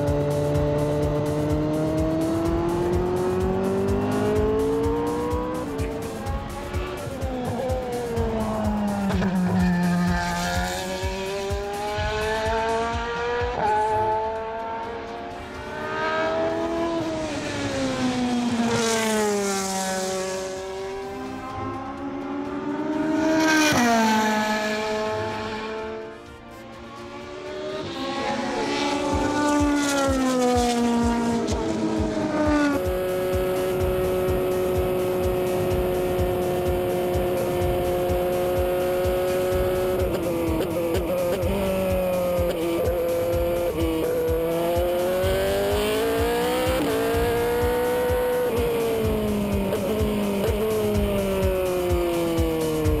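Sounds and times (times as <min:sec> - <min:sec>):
race car engine passing: 0:00.0 - 0:53.0.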